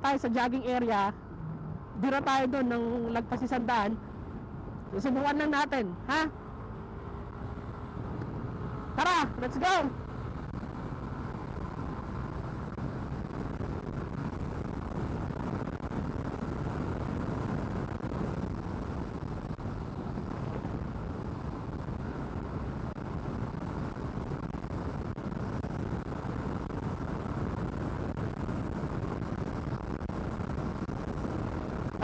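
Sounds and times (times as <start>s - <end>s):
wind and road noise in helmet: 0.0s - 32.0s.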